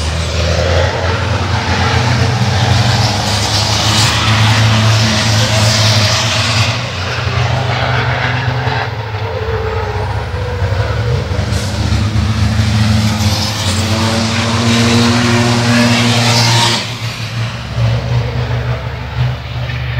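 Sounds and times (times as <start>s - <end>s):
racing truck diesel engines: 0.0s - 19.9s.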